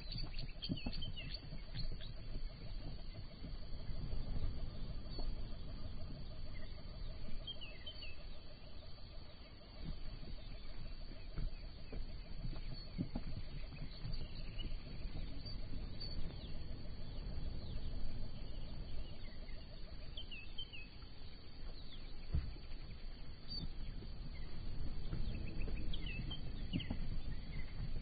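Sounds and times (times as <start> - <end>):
small birds chirping: 0.0 - 28.0
hooves scuffing and thudding: 0.1 - 8.1, 9.2 - 19.1, 20.2 - 28.0.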